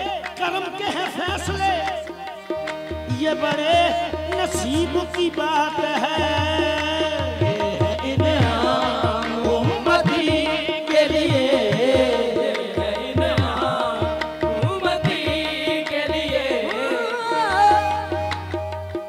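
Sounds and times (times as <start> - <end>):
tabla beats: 0.0 - 19.0.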